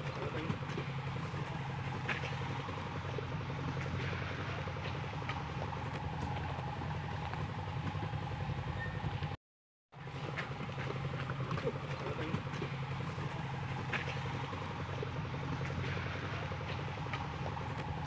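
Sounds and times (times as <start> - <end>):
engine running: 0.0 - 9.4, 10.0 - 18.0.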